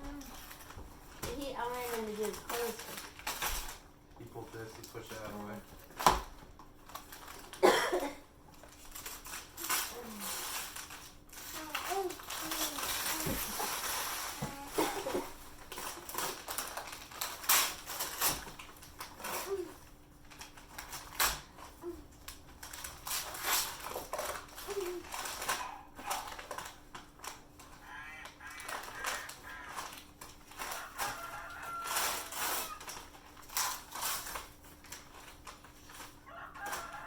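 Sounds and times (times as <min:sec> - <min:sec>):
packaging rustling and crinkling: 0:00.1 - 0:07.6, 0:08.5 - 0:37.0.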